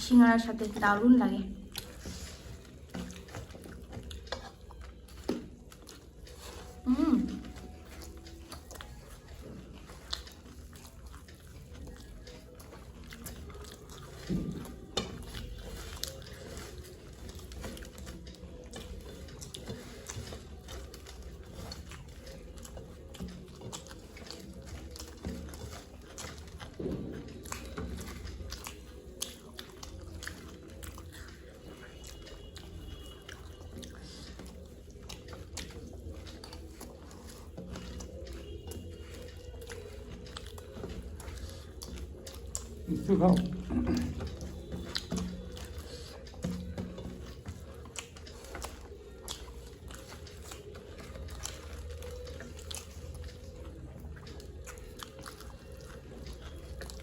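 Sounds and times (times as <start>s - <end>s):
chewing and crunching puffed rice: 0.0s - 57.0s.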